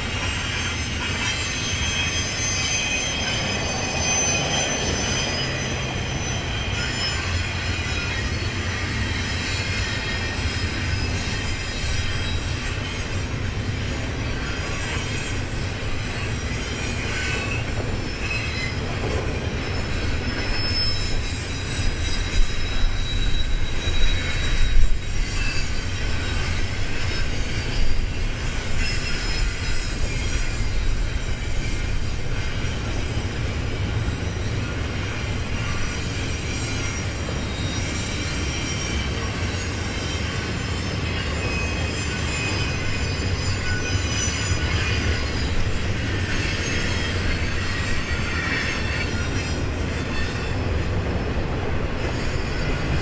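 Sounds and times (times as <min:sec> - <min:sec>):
low train rumble: 0:00.0 - 0:53.0
train wheels squealing on rail: 0:00.0 - 0:53.0.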